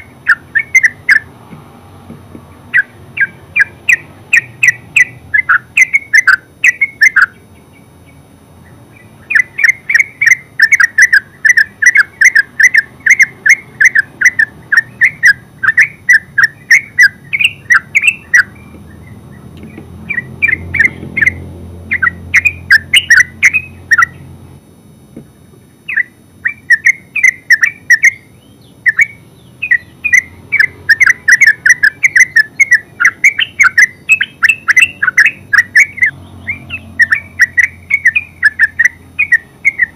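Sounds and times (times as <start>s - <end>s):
bird chattering song: 0.0s - 1.3s, 2.5s - 24.3s, 25.2s - 39.9s.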